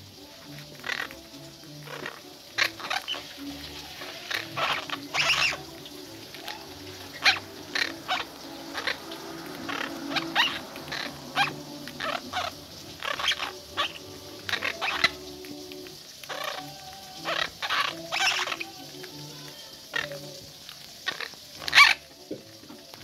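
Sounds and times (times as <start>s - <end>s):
parakeets crunching a chip: 0.2s - 22.1s.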